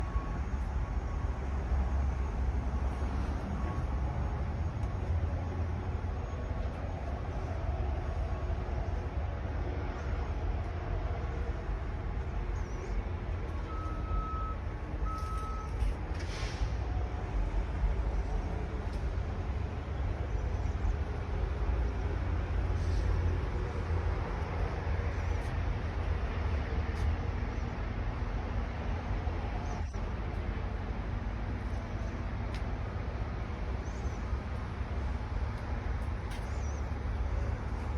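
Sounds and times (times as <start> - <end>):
truck diesel engine rumbling: 0.0 - 37.9.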